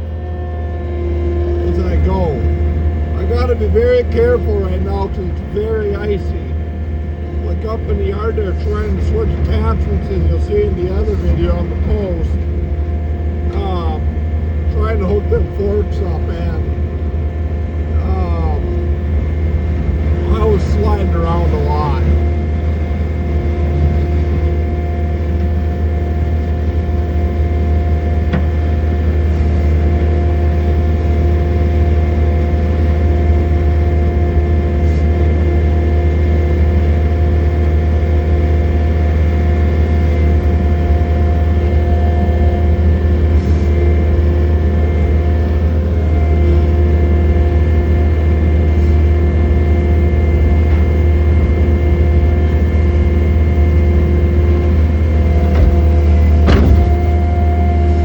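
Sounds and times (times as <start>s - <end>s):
diesel engine running: 0.0s - 58.0s
steady whine: 0.0s - 58.0s.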